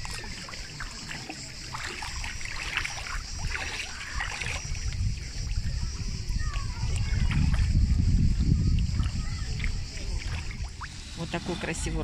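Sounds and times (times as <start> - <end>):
water splashing around wading feet: 0.0 - 12.0.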